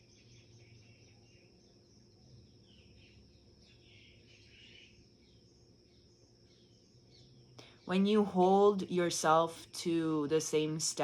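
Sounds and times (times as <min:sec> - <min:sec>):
faint distant bird chirps: 0:00.0 - 0:11.0
steady high-pitched whine: 0:00.0 - 0:11.0.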